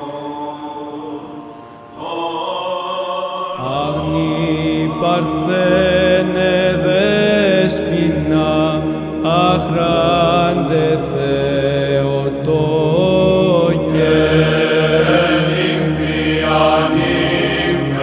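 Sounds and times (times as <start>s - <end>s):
low vocal drone: 0.0s - 18.0s
men chanting wavering notes: 0.0s - 18.0s.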